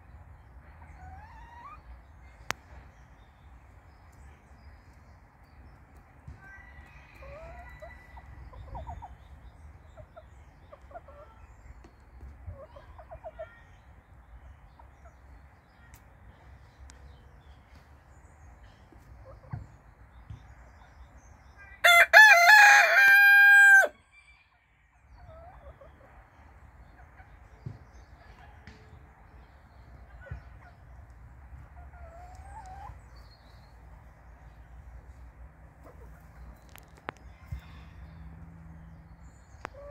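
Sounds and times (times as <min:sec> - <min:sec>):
chickens clucking: 0:00.2 - 0:02.9, 0:03.6 - 0:20.8, 0:25.0 - 0:39.9.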